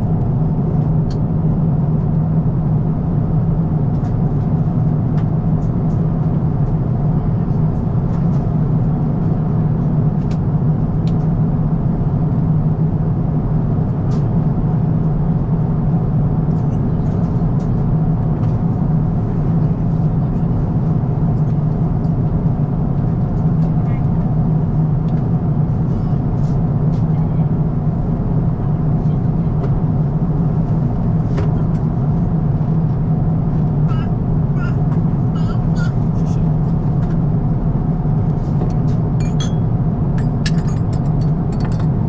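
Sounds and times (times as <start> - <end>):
airliner cabin drone: 0.0 - 42.0.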